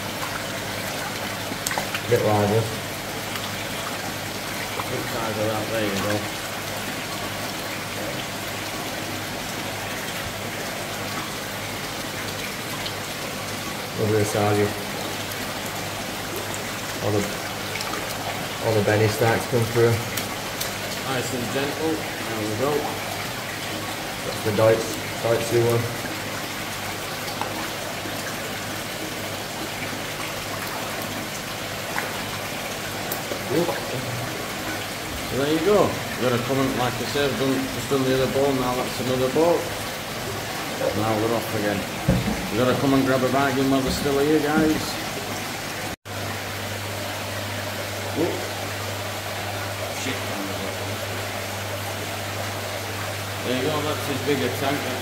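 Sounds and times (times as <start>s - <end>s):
water splashing into tank: 0.0s - 53.7s.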